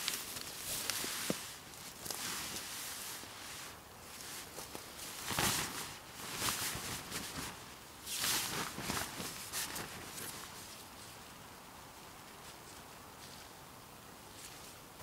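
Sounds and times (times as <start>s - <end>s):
hammock fabric rustling: 0.0s - 11.4s, 14.2s - 15.0s.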